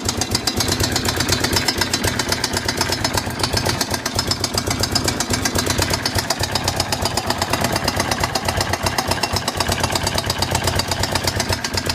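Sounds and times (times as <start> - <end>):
motorcycle engine idling: 0.0 - 11.9
rapid engine knock: 0.0 - 11.9.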